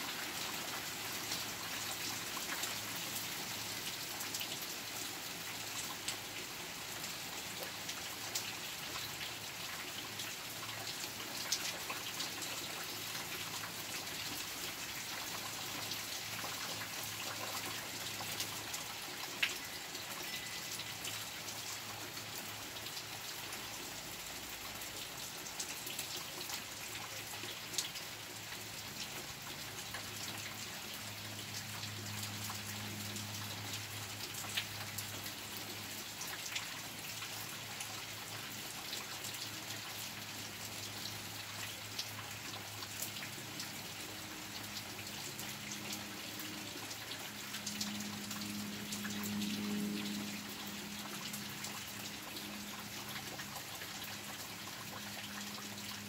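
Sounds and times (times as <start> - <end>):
water drips close by: 0.0 - 56.0.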